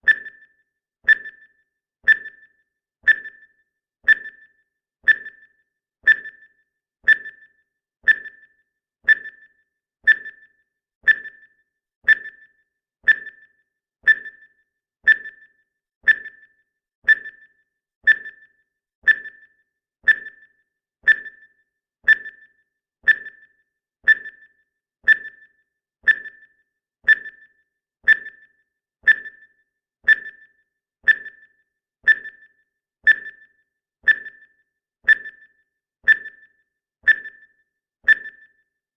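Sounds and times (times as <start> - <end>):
timer ticking: 0.0 - 38.8.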